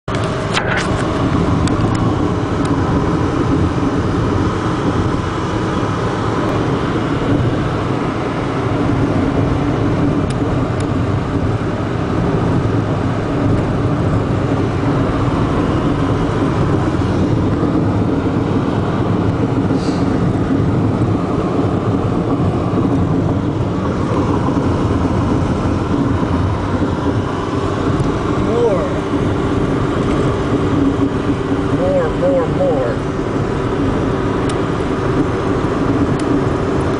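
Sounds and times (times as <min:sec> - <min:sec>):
car cabin road and engine noise: 0:00.0 - 0:36.9.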